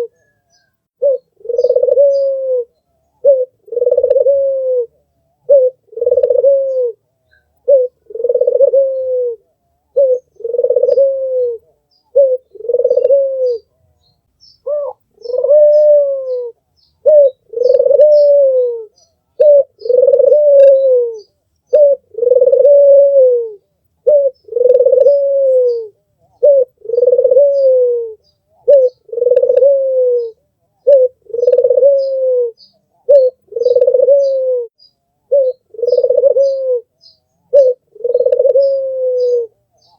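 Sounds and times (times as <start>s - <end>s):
small birds chirping: 0.0s - 4.4s, 5.0s - 39.9s
dove cooing: 0.0s - 39.9s.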